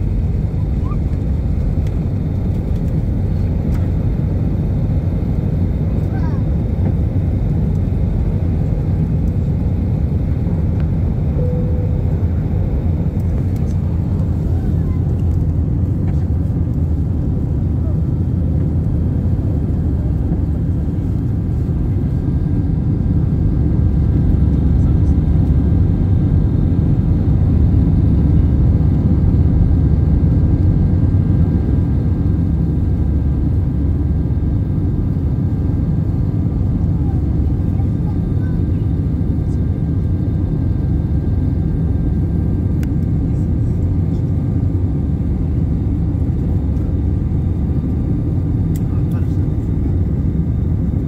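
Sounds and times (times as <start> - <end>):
airplane cabin rumble: 0.0 - 51.0
faint whining engine tones: 0.0 - 51.0.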